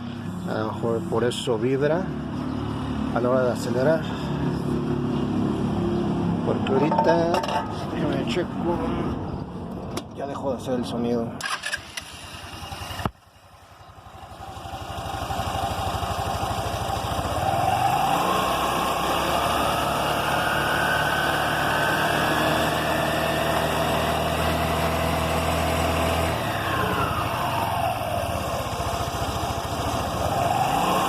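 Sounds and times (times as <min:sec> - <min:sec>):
motorcycle engine idling and revving: 0:00.0 - 0:10.1, 0:11.4 - 0:31.0.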